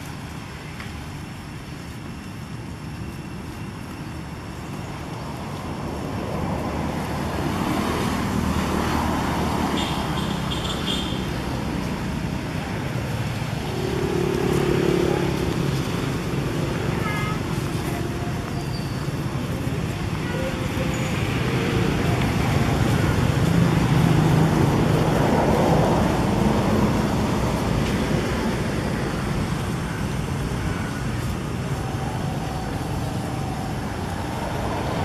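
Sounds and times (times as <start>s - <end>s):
traffic noise: 0.0s - 35.0s.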